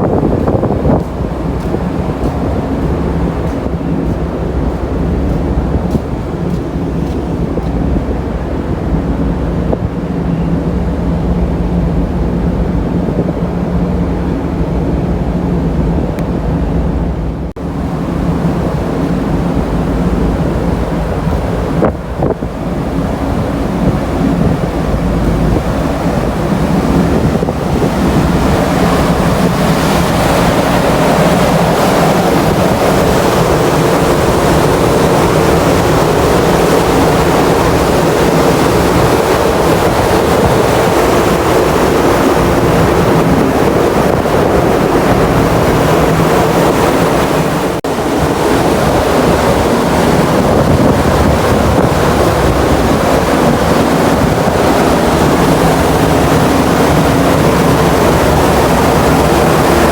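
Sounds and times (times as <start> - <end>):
low engine hum: 0.0 - 59.9
rushing water: 0.0 - 59.9
wind buffeting microphone: 0.0 - 59.9.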